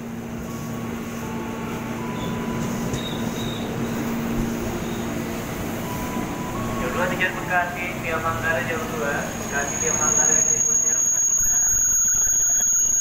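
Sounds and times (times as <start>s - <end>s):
train wheels rumbling on track: 0.0s - 12.9s
faint high squeals: 0.5s - 7.1s, 8.8s - 13.0s.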